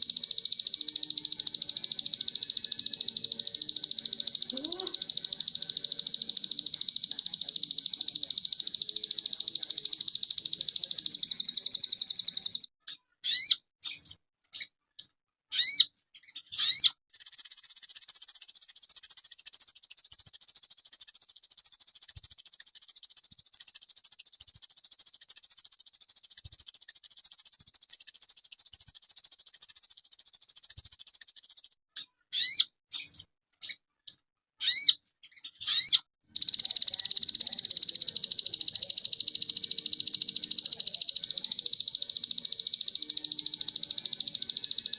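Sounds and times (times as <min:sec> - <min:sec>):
bird fast trill: 0:00.0 - 0:12.7, 0:15.6 - 0:15.9, 0:16.6 - 0:31.8, 0:35.6 - 0:44.9.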